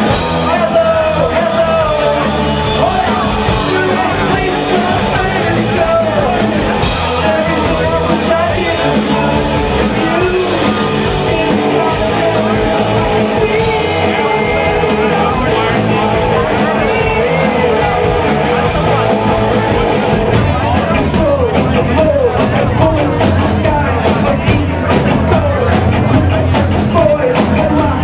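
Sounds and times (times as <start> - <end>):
lead singer singing: 0.0 - 28.0
rock band playing live: 0.0 - 28.0
steady drum beat: 0.0 - 28.0.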